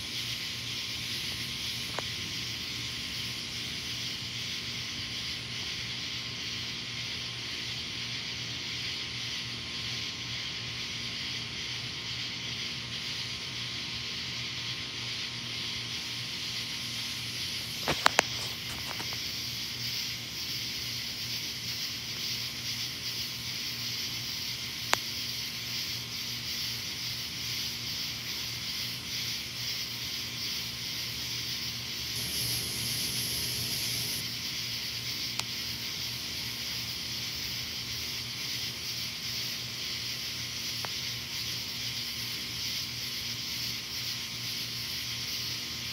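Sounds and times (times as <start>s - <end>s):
night insects chorus: 0.0s - 45.9s.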